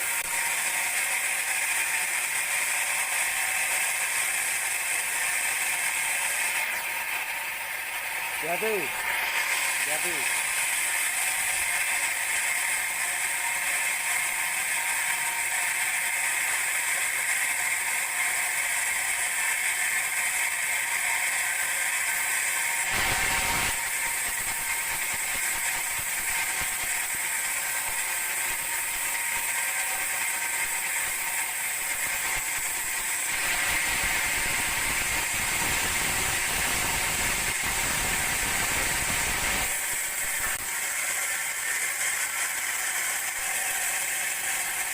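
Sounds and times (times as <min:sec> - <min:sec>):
band saw whining: 0:00.0 - 0:44.9.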